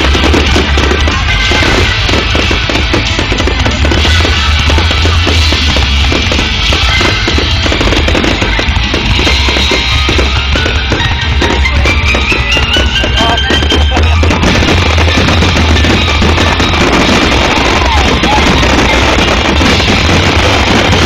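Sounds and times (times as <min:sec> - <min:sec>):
deep rumble: 0:00.0 - 0:21.0
fireworks bursts and crackles: 0:00.0 - 0:21.0
music playing: 0:00.0 - 0:21.0.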